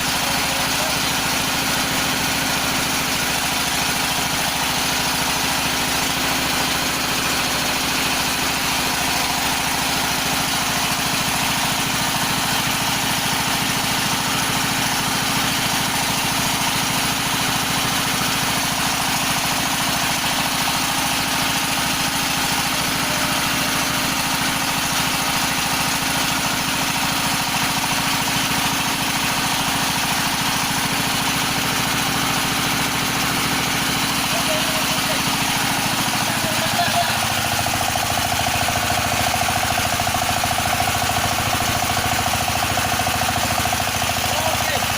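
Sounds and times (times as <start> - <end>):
feed pellet machine running: 0.0 - 44.9.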